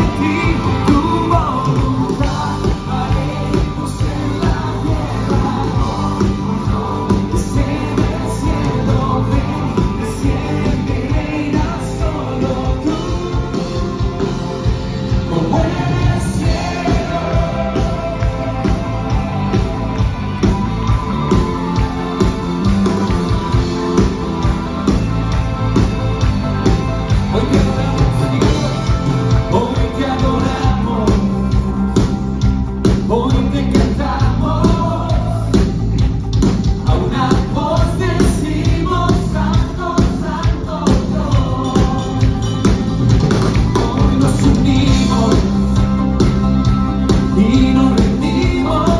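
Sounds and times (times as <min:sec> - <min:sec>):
singers on microphones: 0:00.0 - 0:22.0, 0:27.1 - 0:32.2, 0:32.8 - 0:46.2, 0:47.0 - 0:48.9
worship band playing amplified music: 0:00.0 - 0:48.9.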